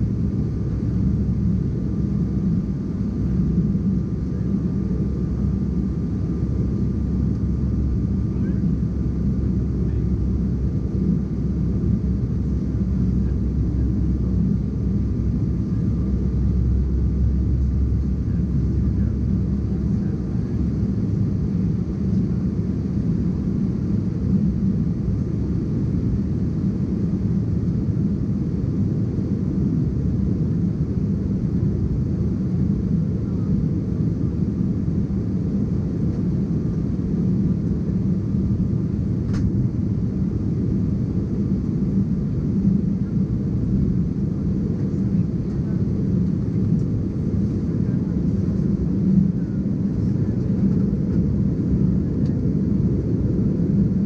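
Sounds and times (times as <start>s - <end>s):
airliner cabin engine roar: 0.0s - 54.0s.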